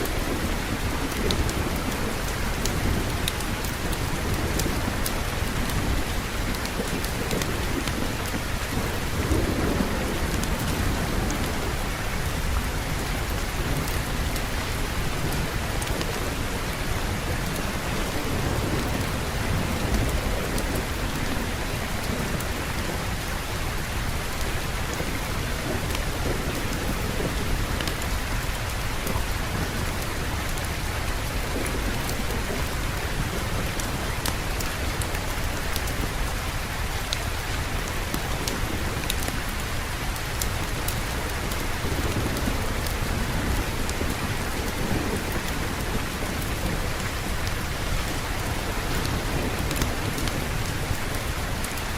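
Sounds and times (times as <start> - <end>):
rolling thunder: 0.0 - 37.1, 37.7 - 51.9
heavy rain: 0.0 - 51.9.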